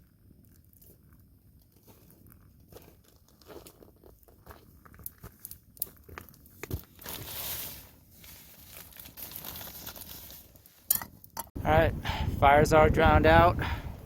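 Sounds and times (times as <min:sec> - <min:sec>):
wet embers crackling: 0:00.0 - 0:11.4.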